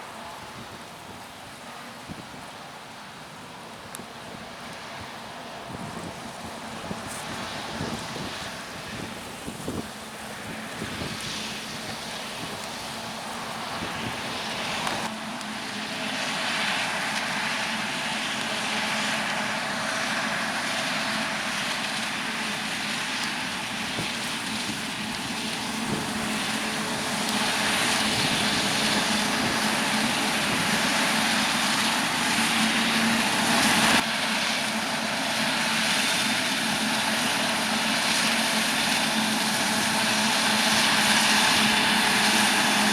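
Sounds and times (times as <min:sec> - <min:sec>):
diesel engines droning: 0:00.0 - 0:42.9.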